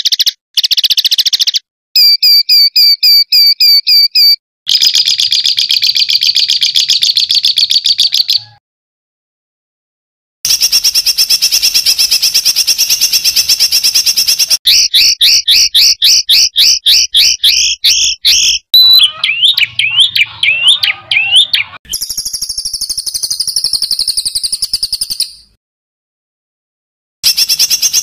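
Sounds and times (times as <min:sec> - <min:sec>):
songbird calls and trills: 0:00.0 - 0:08.6, 0:10.5 - 0:25.6.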